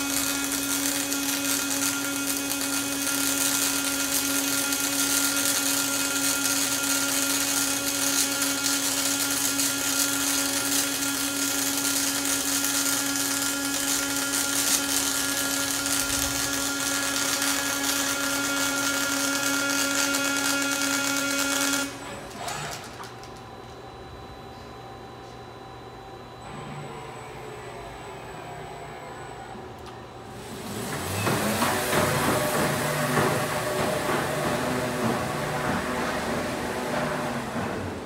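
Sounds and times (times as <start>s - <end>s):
welding arc hissing and buzzing: 0.0s - 23.5s, 30.2s - 37.6s.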